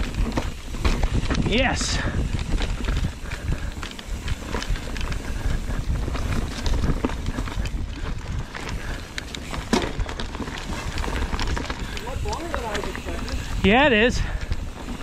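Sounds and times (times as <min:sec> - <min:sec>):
bike rolling over rocky trail: 0:00.0 - 0:15.0
tyre and bike rattles: 0:00.0 - 0:15.0.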